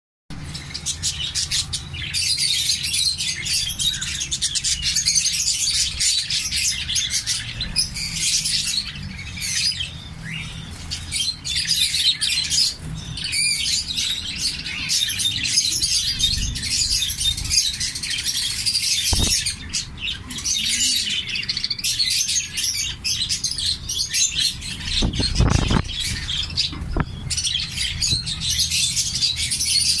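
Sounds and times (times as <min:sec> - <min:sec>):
birds chirping and chattering: 0:00.3 - 0:30.0.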